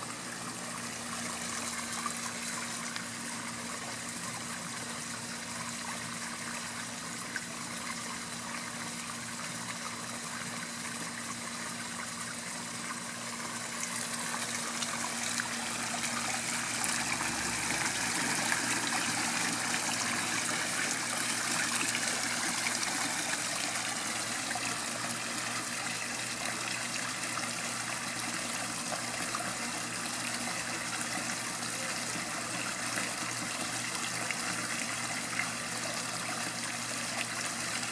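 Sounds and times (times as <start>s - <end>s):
waterfall splashing into pond: 0.0s - 37.9s.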